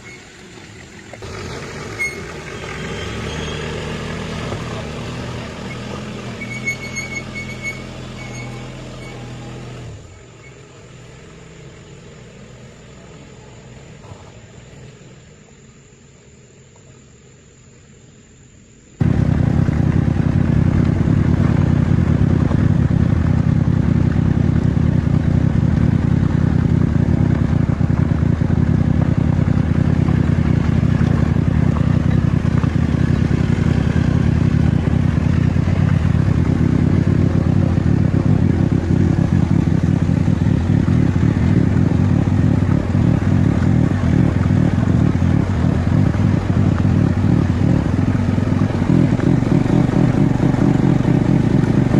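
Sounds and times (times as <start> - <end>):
engine running with pulsing drone: 0.0 - 15.9, 19.0 - 51.9.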